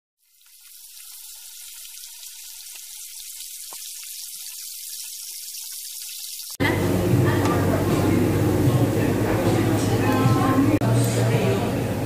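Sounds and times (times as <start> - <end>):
pork sizzling on a grill plate: 0.2 - 11.3.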